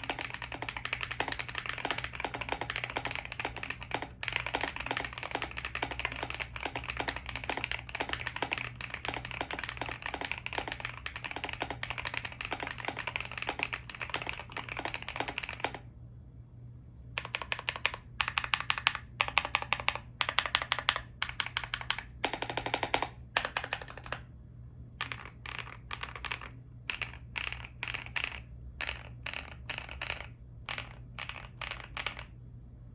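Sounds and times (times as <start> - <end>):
mechanical keyboard typing: 0.0 - 15.9, 17.2 - 24.3, 25.0 - 32.4
rapid repeated key presses: 0.0 - 15.9, 17.2 - 24.3, 25.0 - 32.4.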